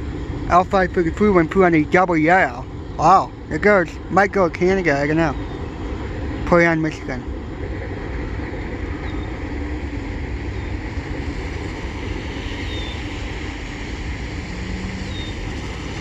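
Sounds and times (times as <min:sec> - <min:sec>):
freight train rumbling: 0:00.0 - 0:16.0
wind noise on microphone: 0:00.0 - 0:16.0.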